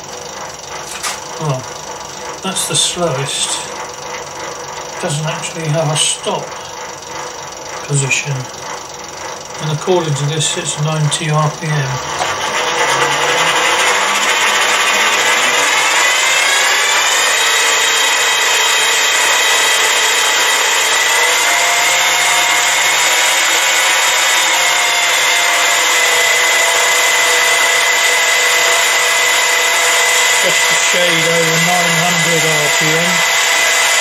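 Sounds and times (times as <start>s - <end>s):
lathe motor whine: 0.0s - 34.0s.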